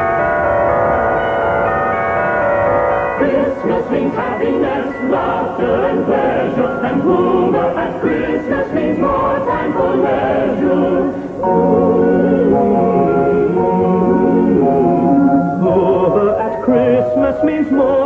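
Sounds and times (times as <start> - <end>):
choir singing with accompaniment: 3.1 - 18.0.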